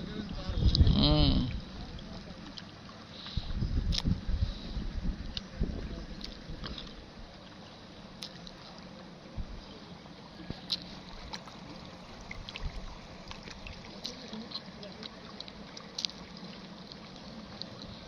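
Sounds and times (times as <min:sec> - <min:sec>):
river water: 0:00.0 - 0:18.0
wind: 0:00.0 - 0:18.0.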